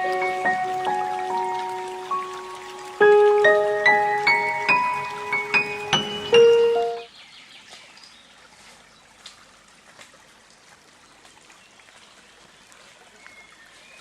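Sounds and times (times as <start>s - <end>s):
stream trickling: 0.0s - 14.0s
water drips: 0.0s - 14.0s.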